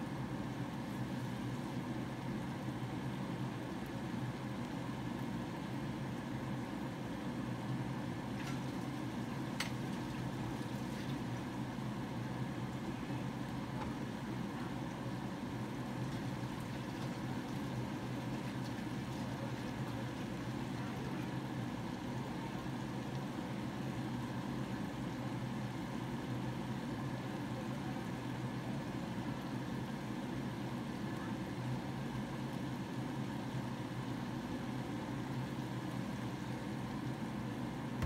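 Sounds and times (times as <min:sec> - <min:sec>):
range hood fan humming: 0:00.0 - 0:38.0.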